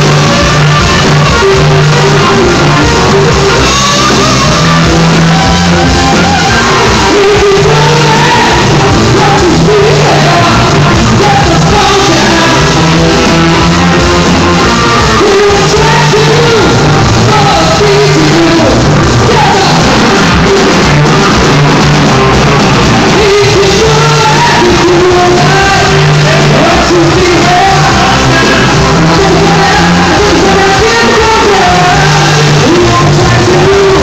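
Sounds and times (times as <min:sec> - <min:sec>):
rock band playing loud: 0:00.0 - 0:34.0
singer belting vocals: 0:00.0 - 0:34.0.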